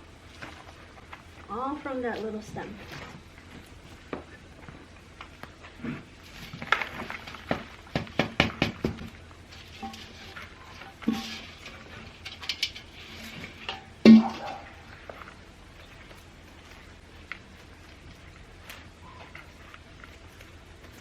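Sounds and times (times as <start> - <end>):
hands working soil in container: 0.0 - 21.0.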